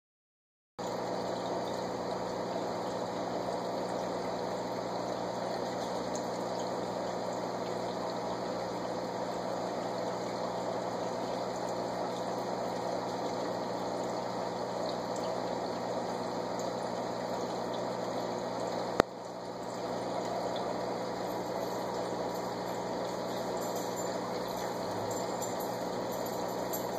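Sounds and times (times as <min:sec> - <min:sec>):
aquarium equipment hum: 0:00.8 - 0:26.9
bubbling water: 0:00.8 - 0:26.9.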